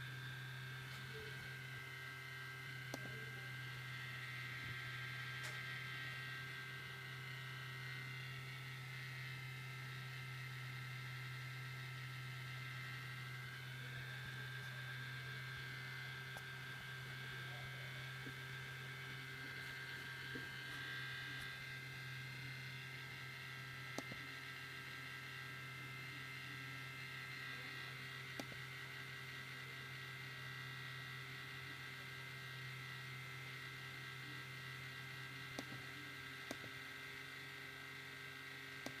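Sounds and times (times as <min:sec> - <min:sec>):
laptop buzzing hum with whine: 0:00.0 - 0:39.0.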